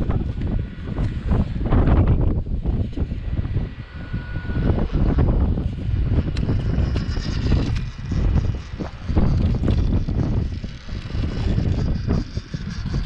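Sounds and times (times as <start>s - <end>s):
small electric motor whining: 0.0s - 13.0s
wind rumble on microphone: 0.0s - 13.0s.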